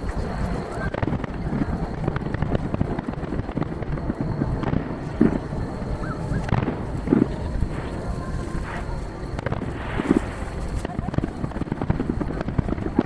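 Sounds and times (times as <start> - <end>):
fireworks bursting with echoes: 0.0 - 13.0.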